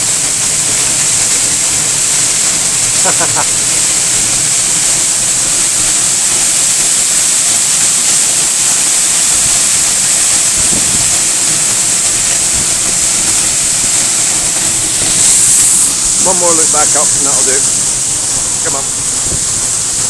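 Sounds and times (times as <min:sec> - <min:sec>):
waterfall crashing onto rocks: 0:00.0 - 0:20.0.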